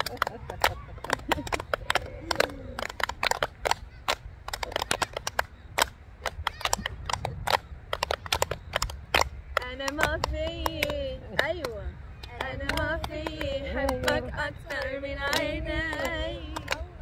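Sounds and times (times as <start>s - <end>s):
people clapping: 0.0s - 17.0s.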